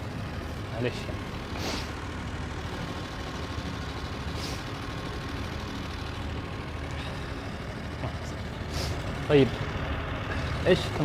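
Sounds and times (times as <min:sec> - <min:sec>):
engine running rumble: 0:00.0 - 0:11.0.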